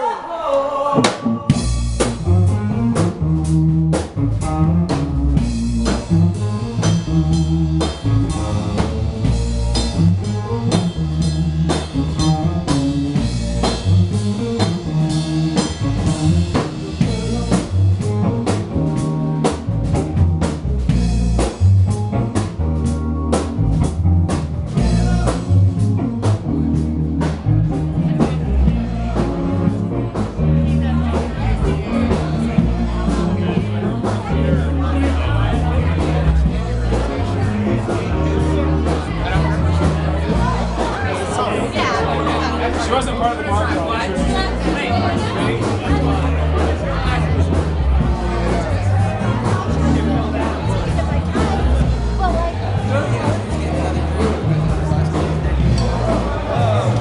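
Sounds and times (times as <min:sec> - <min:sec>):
bass line: 0:00.0 - 0:57.0
electric guitar: 0:00.7 - 0:57.0
drum kit beat: 0:00.9 - 0:57.0.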